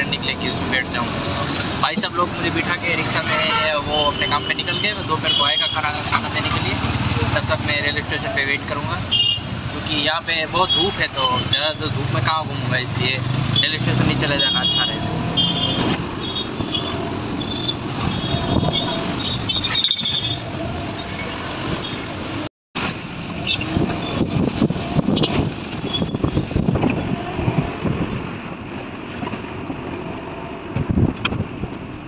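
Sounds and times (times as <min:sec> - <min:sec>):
road and traffic noise: 0:00.0 - 0:32.0.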